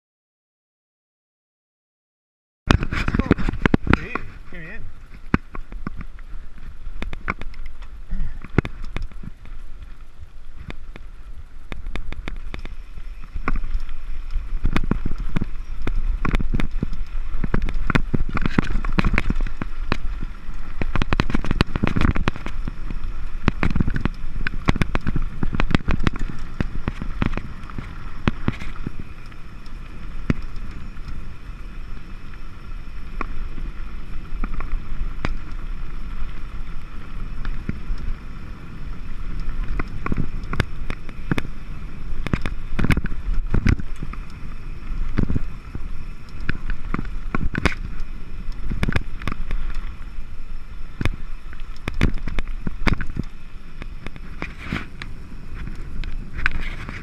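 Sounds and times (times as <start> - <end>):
bike rattling: 2.7 - 57.0
tyres crunching over stones: 2.7 - 57.0
wind rumble on microphone: 2.7 - 57.0.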